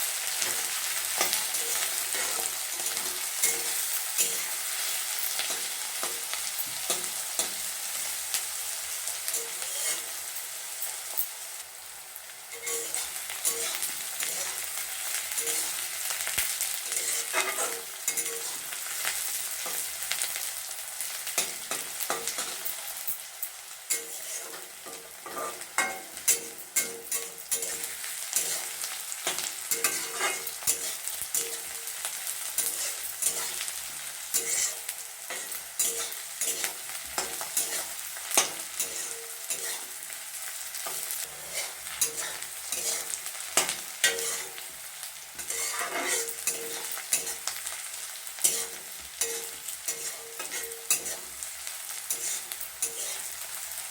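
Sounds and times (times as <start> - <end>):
onions sizzling in oil: 0.0 - 53.9
spoon scraping and tapping pan: 0.4 - 7.7, 9.3 - 10.2, 12.5 - 19.9, 21.4 - 32.0, 32.6 - 40.0, 40.8 - 44.7, 45.4 - 47.7, 48.4 - 51.4, 52.0 - 53.3.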